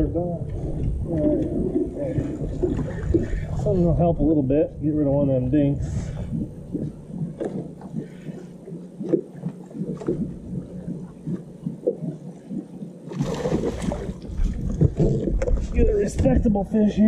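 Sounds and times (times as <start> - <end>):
waves lapping against boat hull: 0.4 - 16.6.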